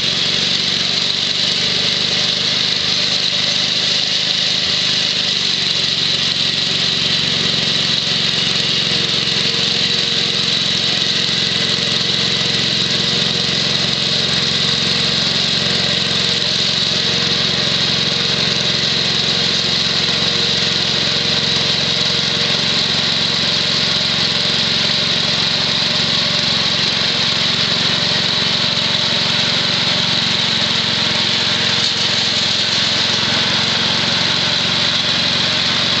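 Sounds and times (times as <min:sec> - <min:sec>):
single-cylinder engine running: 0:00.0 - 0:36.0.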